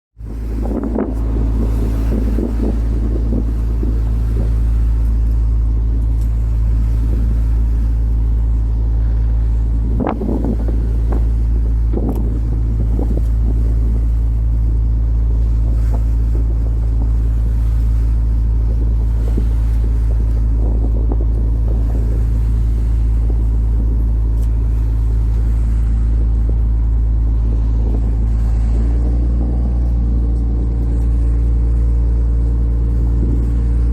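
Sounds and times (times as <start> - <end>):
boat engine droning: 0.2 - 33.9.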